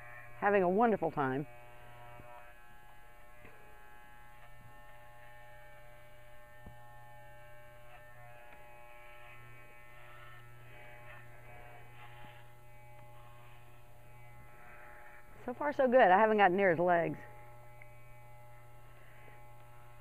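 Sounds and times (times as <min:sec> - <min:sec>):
electric dog clippers humming: 0:00.0 - 0:20.0.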